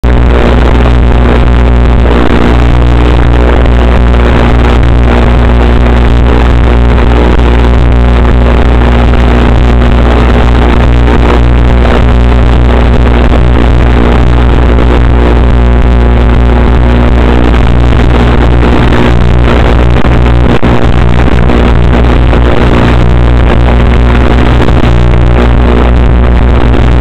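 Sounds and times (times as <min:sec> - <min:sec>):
electrical buzz: 0:00.0 - 0:27.0.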